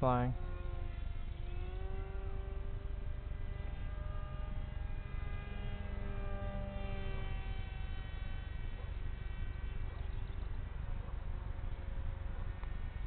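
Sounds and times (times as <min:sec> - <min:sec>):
model jet propeller whining: 0:00.0 - 0:13.0.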